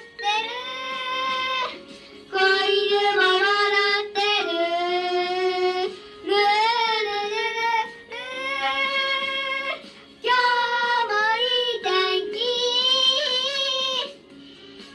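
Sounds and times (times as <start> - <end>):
high child-like voice singing: 0.0 - 14.2.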